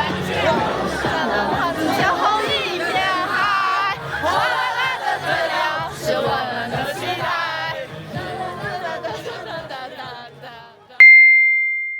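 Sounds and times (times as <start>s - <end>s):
voices singing over low drone: 0.0s - 11.0s.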